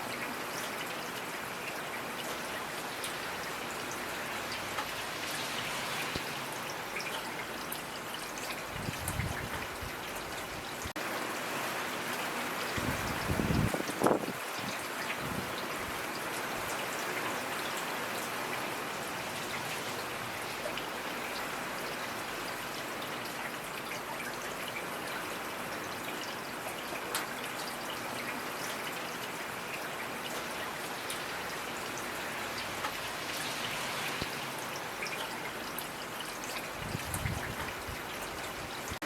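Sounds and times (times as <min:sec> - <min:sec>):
raindrops pattering on surfaces: 0:00.0 - 0:39.0
steady rainfall: 0:00.0 - 0:39.0.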